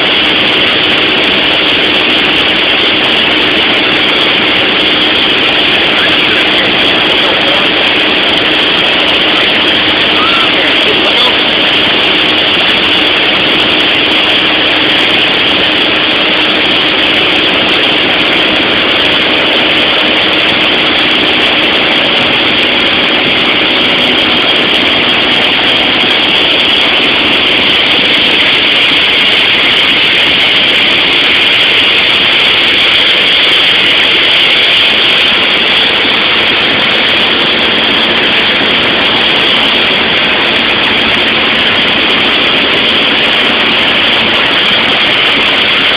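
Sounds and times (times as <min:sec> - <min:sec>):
light aircraft engine drone: 0:00.0 - 0:45.9.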